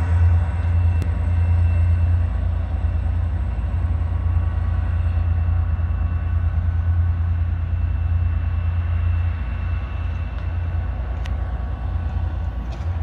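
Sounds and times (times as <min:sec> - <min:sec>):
faint steady whine: 0:00.0 - 0:13.0
train engine rumble: 0:00.0 - 0:13.0.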